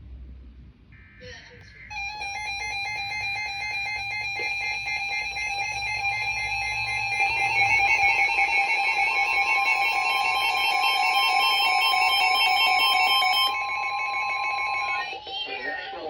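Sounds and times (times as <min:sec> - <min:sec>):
higher alert tone: 0:01.9 - 0:15.1
pulsing shrill alarm tone: 0:01.9 - 0:15.2.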